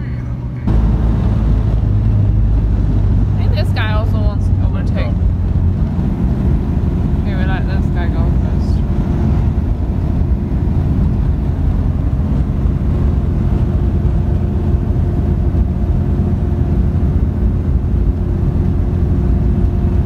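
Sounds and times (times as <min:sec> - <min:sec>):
car engine droning: 0:00.0 - 0:20.0
tyre and road rumble: 0:00.0 - 0:20.0.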